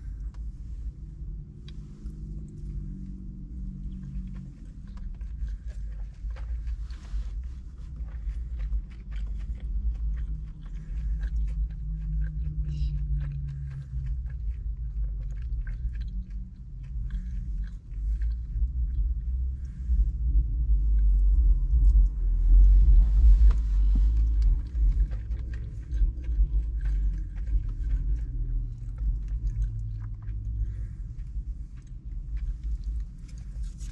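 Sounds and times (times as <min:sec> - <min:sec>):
low rumble: 0:00.0 - 0:33.9
person chewing: 0:00.0 - 0:33.9.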